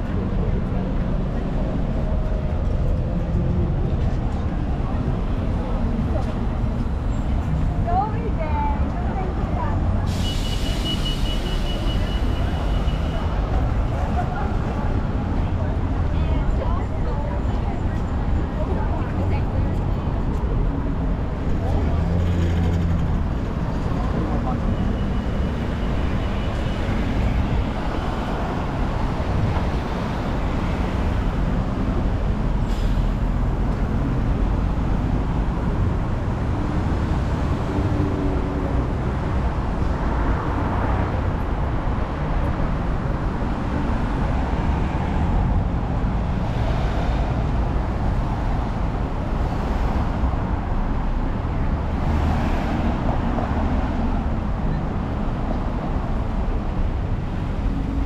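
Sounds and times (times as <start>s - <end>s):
passing cars and buses: 0.0s - 58.0s.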